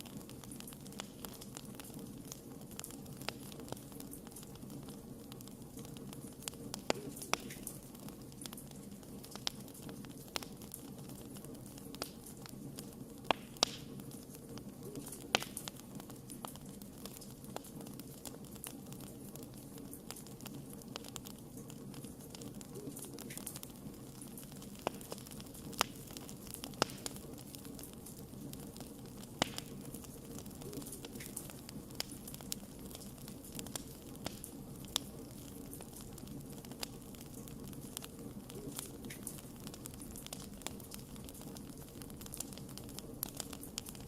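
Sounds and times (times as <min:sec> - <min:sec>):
fire hissing: 0:00.0 - 0:44.0
wood fire snapping and popping: 0:00.0 - 0:44.0.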